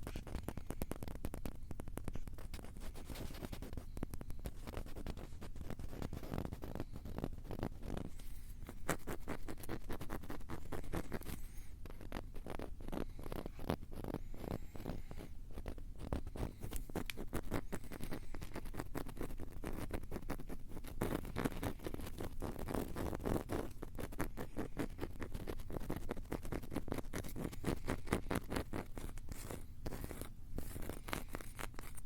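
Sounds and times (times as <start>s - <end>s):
crackly scratching and tapping: 0.0s - 32.0s.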